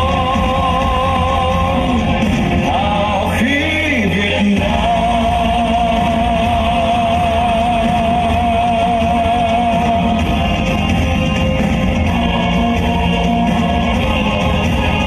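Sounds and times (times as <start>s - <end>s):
dance music with heavy beat: 0.0s - 15.0s.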